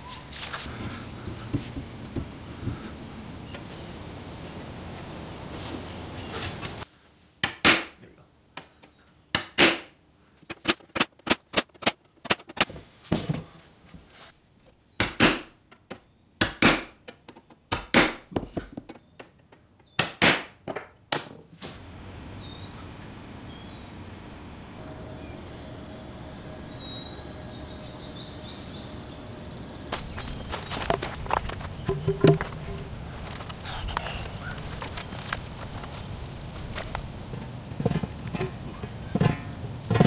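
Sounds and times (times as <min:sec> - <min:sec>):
steady background hiss: 0:00.0 - 0:14.7, 0:21.3 - 0:39.8.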